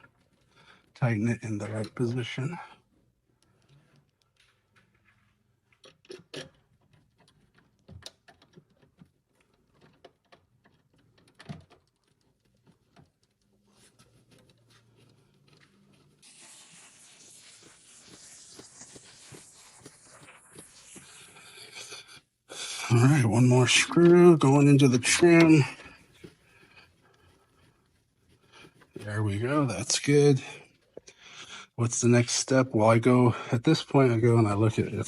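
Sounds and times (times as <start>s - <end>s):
faint steady scraping: 0.0s - 35.0s.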